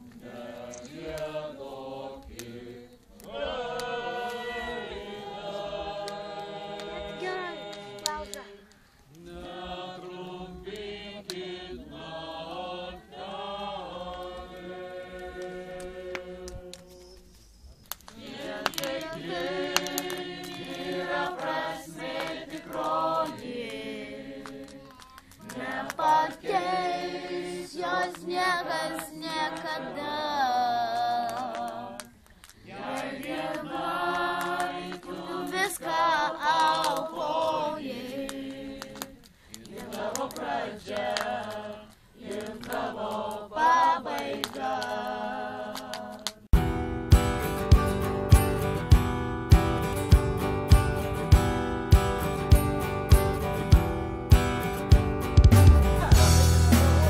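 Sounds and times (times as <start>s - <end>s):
choir singing held chords: 0.0s - 17.0s, 18.2s - 24.8s, 25.4s - 57.0s.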